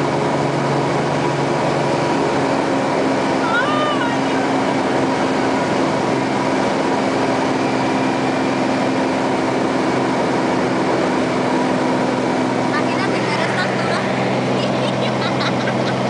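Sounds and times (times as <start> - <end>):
aircraft engine and propeller drone: 0.0 - 16.0.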